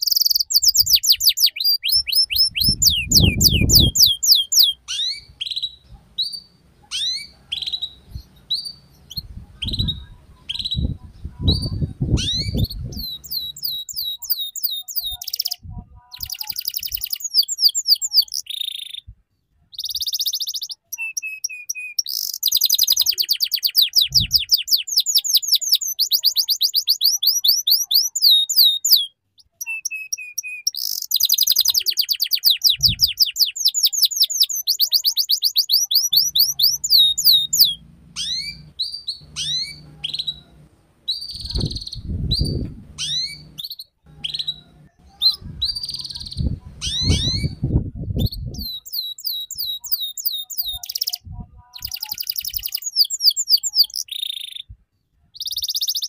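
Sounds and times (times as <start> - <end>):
canary singing: 0.0 - 19.1, 19.7 - 54.7, 55.4 - 56.0.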